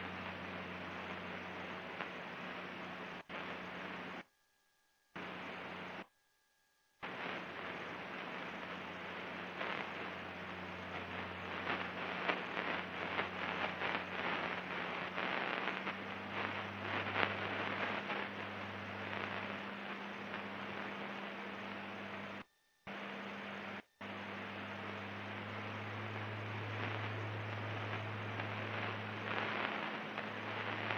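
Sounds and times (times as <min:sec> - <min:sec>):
crackly static hiss: 0:00.0 - 0:30.9.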